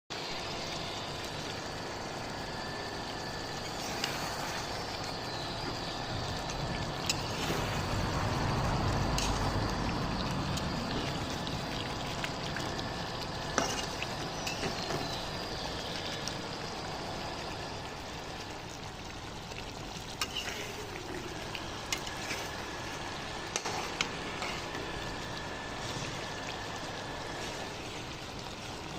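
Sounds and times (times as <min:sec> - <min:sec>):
chicken sizzling: 0:00.1 - 0:28.9.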